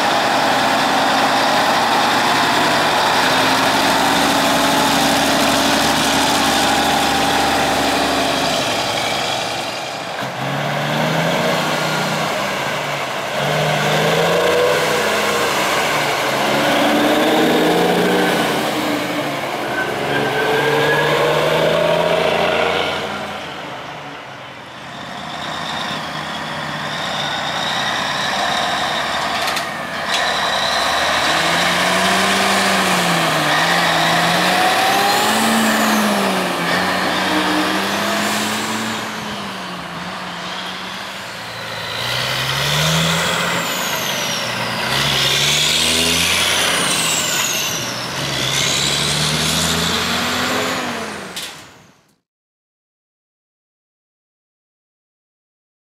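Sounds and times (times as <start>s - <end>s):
diesel truck accelerating: 0.0s - 52.2s.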